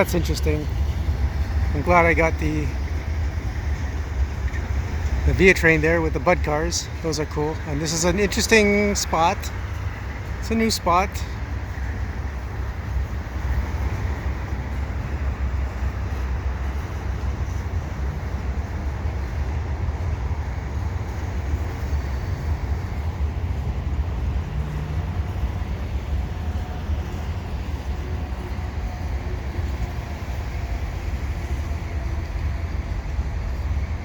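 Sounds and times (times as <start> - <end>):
rail noise: 0.0 - 34.0
train rumbling: 0.0 - 34.0.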